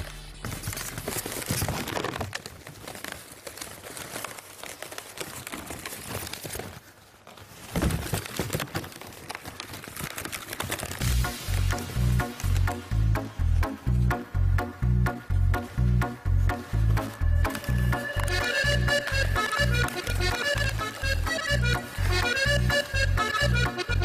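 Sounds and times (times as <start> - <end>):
balloons squeaking and rubbing: 0.0 - 14.2, 15.3 - 24.0.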